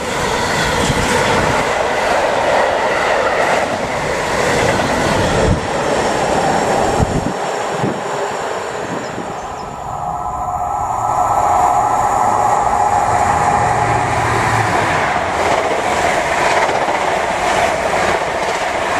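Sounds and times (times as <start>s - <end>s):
train rumbling past on rails: 0.0s - 18.9s.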